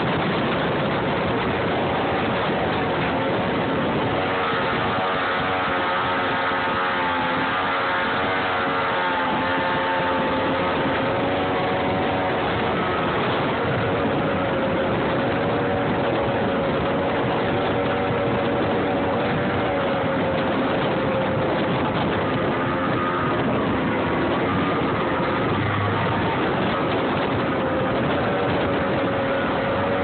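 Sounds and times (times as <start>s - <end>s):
motorboat engine drone: 0.0s - 30.0s
rush of wind and water: 0.0s - 30.0s.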